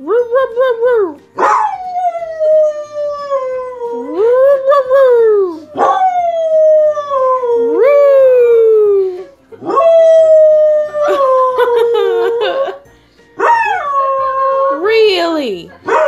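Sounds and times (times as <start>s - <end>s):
dog howling: 1.4s - 12.8s, 13.4s - 14.9s.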